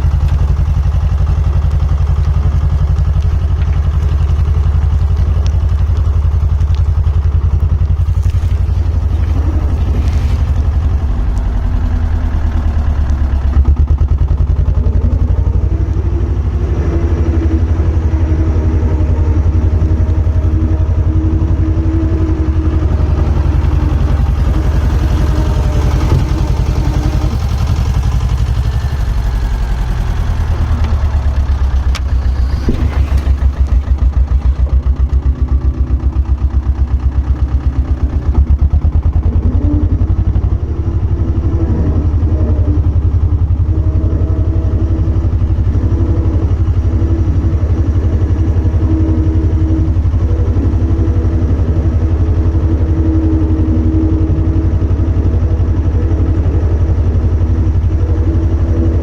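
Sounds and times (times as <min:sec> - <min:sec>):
diesel engine running loud: 0:00.0 - 0:59.0.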